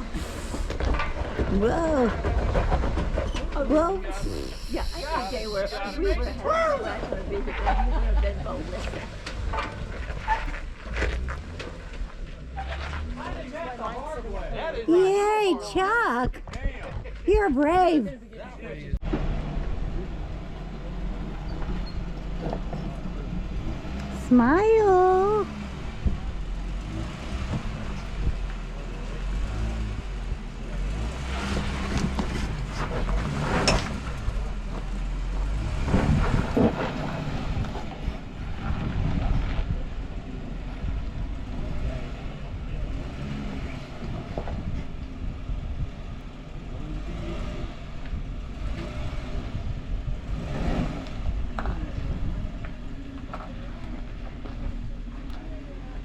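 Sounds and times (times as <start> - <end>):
off-road vehicle engine rumbling: 0.0 - 56.0.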